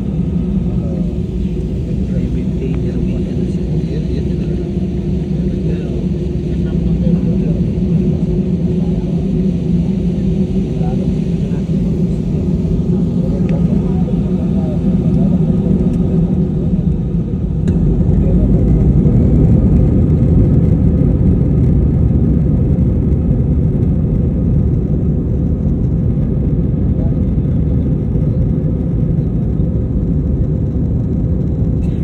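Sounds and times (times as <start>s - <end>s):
jet engines and airflow rumble: 0.0s - 32.0s.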